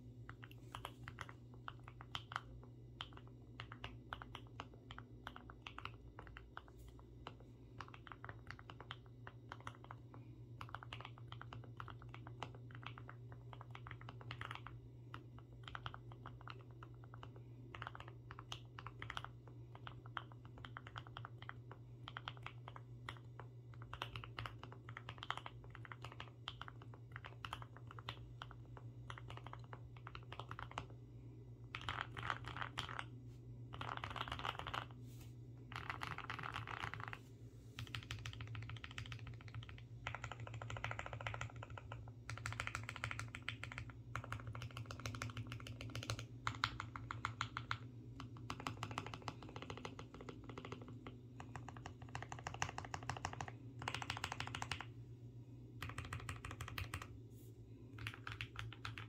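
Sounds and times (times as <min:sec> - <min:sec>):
steady low hum: 0:00.0 - 0:59.0
mechanical keyboard typing: 0:00.4 - 0:31.0, 0:31.6 - 0:33.1, 0:33.7 - 0:34.9, 0:35.6 - 0:37.2, 0:37.8 - 0:54.9, 0:55.8 - 0:57.2, 0:58.0 - 0:59.0.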